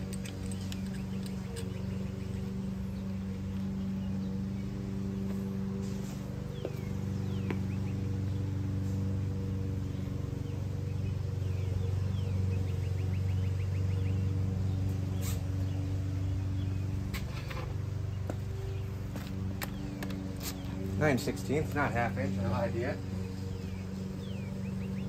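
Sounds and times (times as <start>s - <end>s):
low hum of held pitches: 0.0s - 25.0s.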